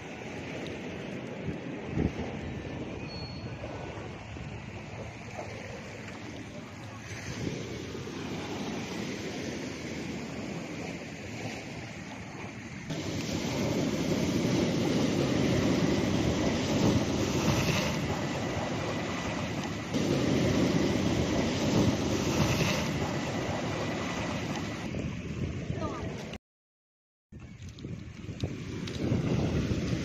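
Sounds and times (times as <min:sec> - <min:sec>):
ocean waves washing in: 0:00.0 - 0:26.4, 0:28.4 - 0:30.0
wind buffeting microphone: 0:01.0 - 0:11.2, 0:12.2 - 0:26.4, 0:27.3 - 0:30.0.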